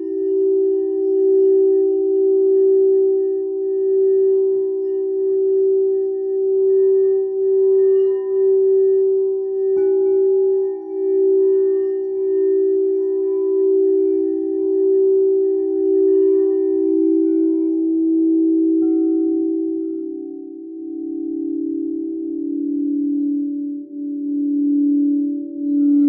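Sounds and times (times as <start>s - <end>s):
singing bowl ringing hum: 0.0s - 26.0s.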